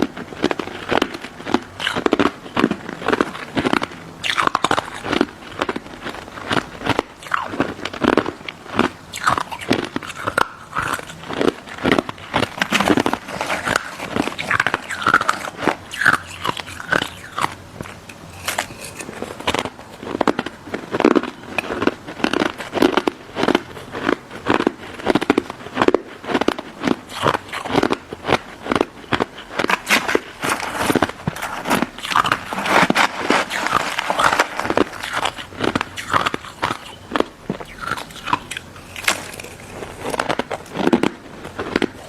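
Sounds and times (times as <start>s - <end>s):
crunching ice dessert: 0.0s - 42.0s.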